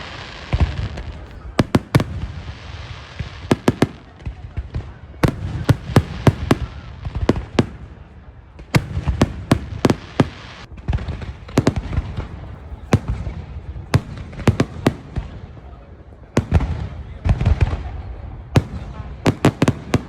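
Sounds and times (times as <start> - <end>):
fireworks bangs: 0.0 - 20.0
fireworks rumble and crackle: 0.0 - 20.0.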